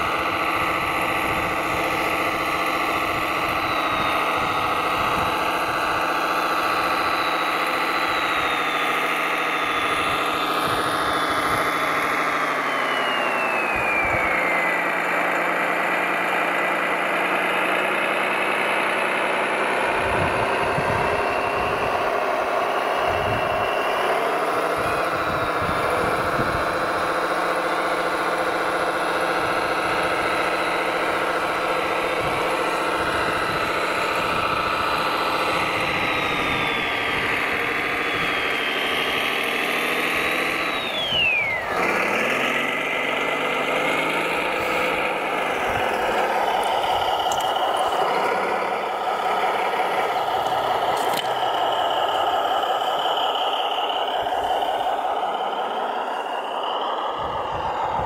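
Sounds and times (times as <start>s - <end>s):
electric motor whine: 0.0s - 58.0s
simulated diesel engine sound: 0.0s - 58.0s.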